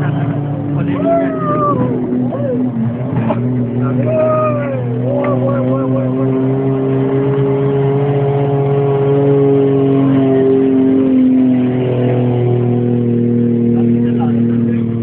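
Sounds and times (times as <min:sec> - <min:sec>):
car engine running inside car: 0:00.0 - 0:15.0.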